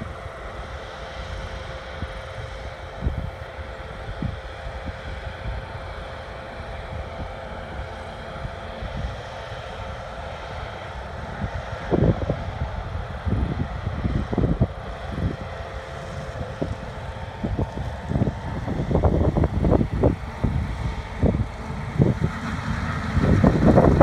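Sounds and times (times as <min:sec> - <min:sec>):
faint machine whine: 0:00.0 - 0:24.0
harvesting machinery droning: 0:00.0 - 0:24.0
wind buffeting microphone: 0:00.0 - 0:24.0.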